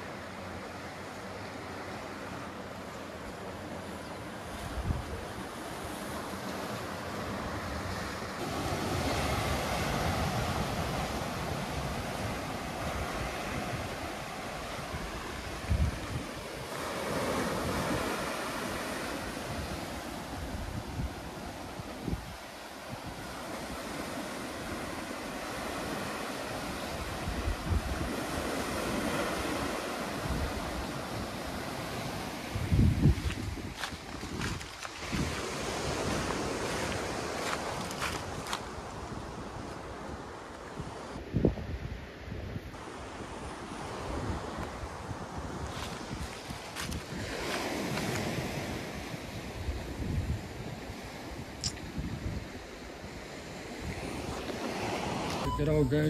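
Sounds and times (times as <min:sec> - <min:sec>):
surf washing against rocky shore: 0:00.0 - 0:56.0
wind on microphone: 0:04.5 - 0:06.3, 0:07.2 - 0:56.0.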